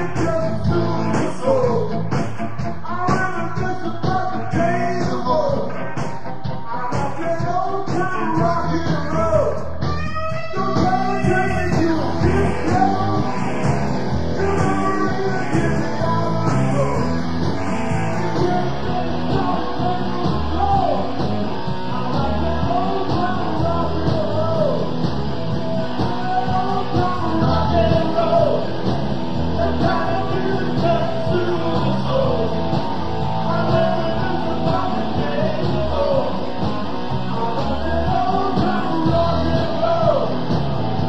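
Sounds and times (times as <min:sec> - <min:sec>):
person singing: 0:00.0 - 0:25.0, 0:25.8 - 0:28.8, 0:29.5 - 0:36.6, 0:37.2 - 0:40.5
rock and roll band: 0:00.0 - 0:41.0.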